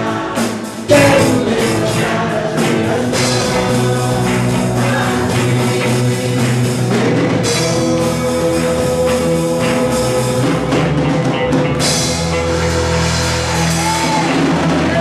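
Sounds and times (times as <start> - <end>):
band music: 0.0 - 15.0
drum kit playing: 0.0 - 15.0.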